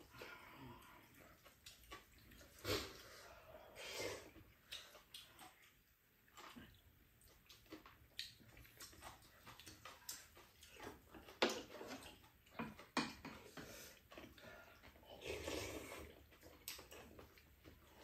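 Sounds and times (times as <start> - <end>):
noodles slurped and chewed: 0.0 - 18.0.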